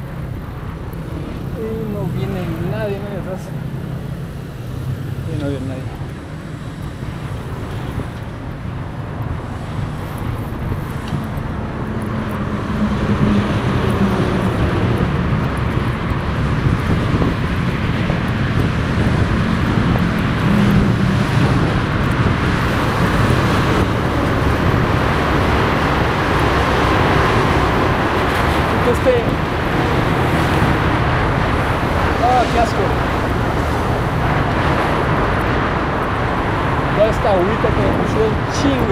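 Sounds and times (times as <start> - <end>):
vehicle engines and road noise: 0.0 - 38.9.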